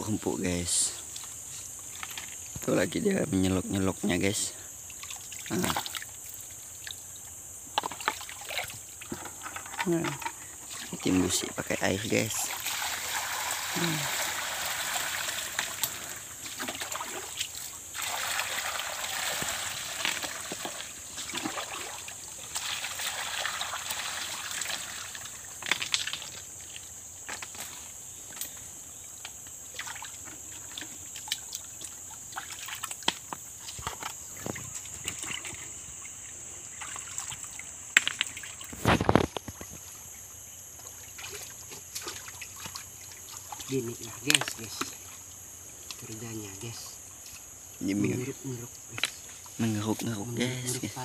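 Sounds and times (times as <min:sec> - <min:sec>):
steady high-pitched hiss: 0:00.0 - 0:51.0
muddy water sloshing: 0:03.4 - 0:50.8.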